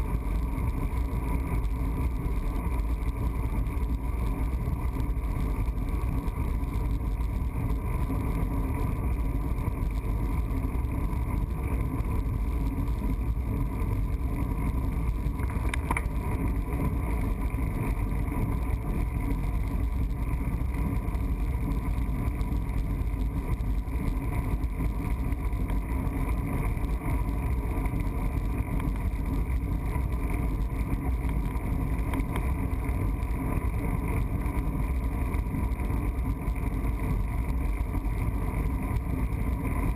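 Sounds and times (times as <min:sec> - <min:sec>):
tyre noise on asphalt: 0:00.0 - 0:39.9.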